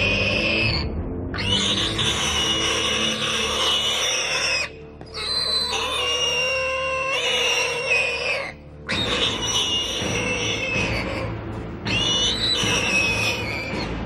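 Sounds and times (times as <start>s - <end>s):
warthog squealing: 0.0s - 14.0s.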